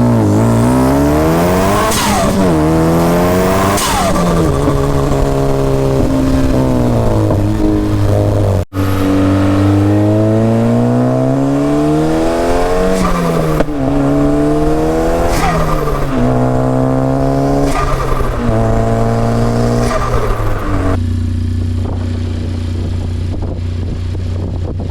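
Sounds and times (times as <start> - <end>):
car engine accelerating hard: 0.0 - 24.9.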